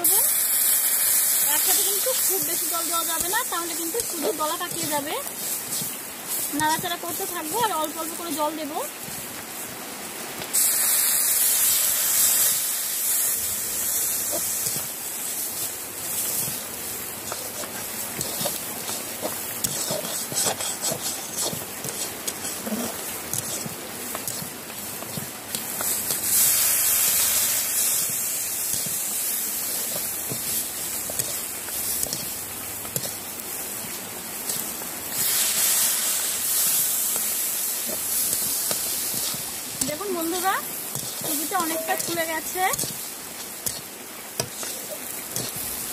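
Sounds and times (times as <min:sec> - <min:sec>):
water hissing in hot pan: 0:00.0 - 0:45.9.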